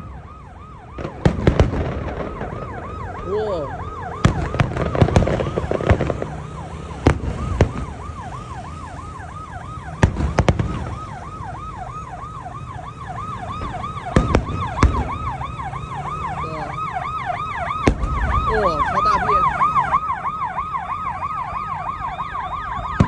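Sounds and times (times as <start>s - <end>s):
siren yelping: 0.0s - 23.0s
fireworks bangs: 0.9s - 20.7s.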